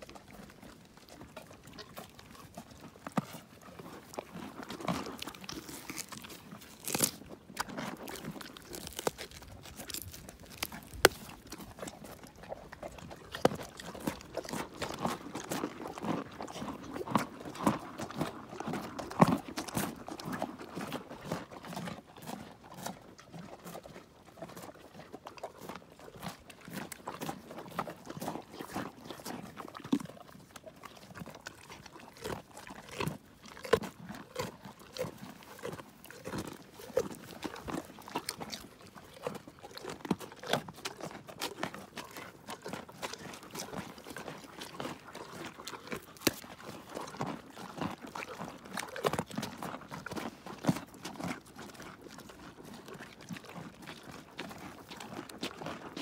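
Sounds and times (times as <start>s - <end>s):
animals crunching carrots: 0.0s - 56.0s.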